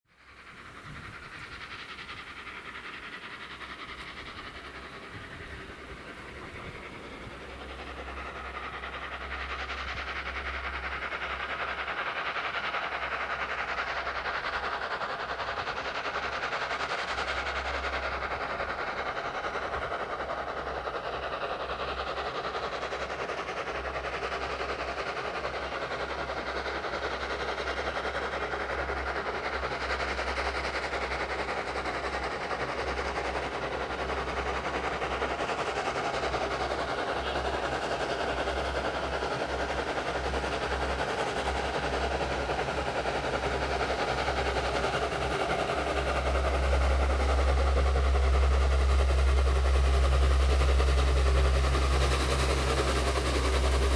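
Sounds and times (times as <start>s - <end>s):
steam train approaching: 0.1s - 53.9s.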